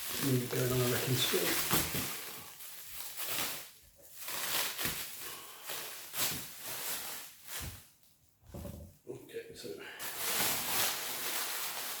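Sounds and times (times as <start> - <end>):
packaging rustling: 0.0 - 7.9, 10.0 - 12.0.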